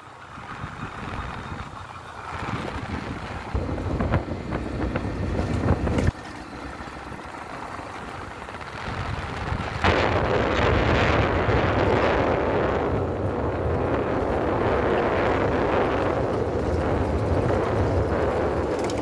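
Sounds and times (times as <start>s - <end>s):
motorcycle riding: 0.0s - 19.0s
wind buffeting microphone: 0.0s - 19.0s.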